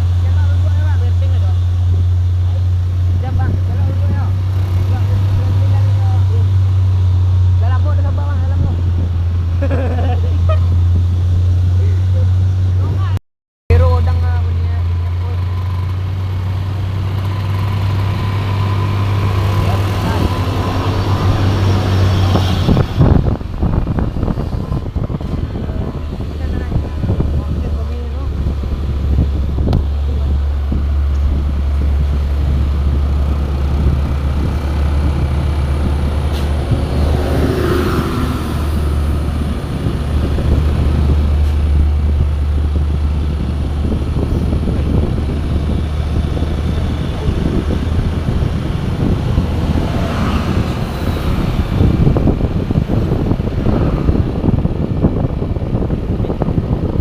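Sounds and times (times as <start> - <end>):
low engine drone: 0.0 - 57.0
road noise: 0.0 - 57.0.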